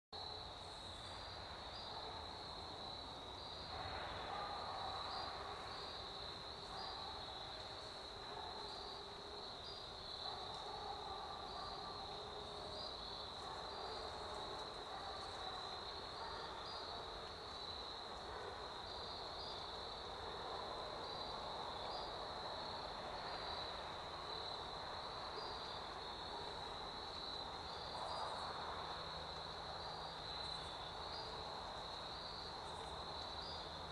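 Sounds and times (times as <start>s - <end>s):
high-pitched insect chorus: 0.2s - 33.9s.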